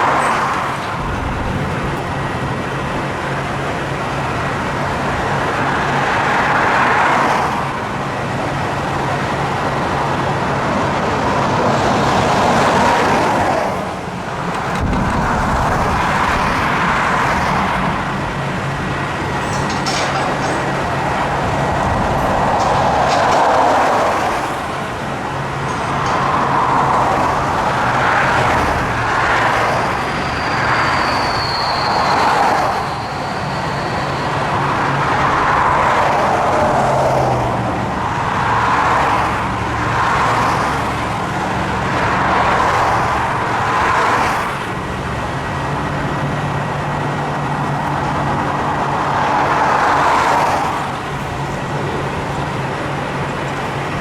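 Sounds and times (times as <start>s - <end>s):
highway traffic passing: 0.0s - 54.0s.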